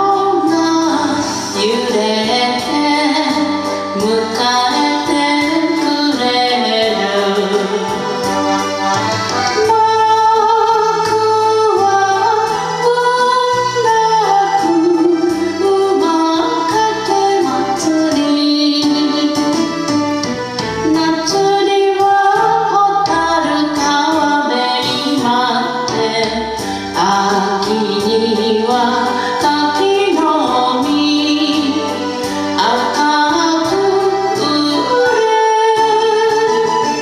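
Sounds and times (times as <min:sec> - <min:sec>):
woman singing: 0:00.0 - 0:08.9, 0:09.5 - 0:19.9, 0:20.8 - 0:37.0
karaoke backing track: 0:00.0 - 0:37.0.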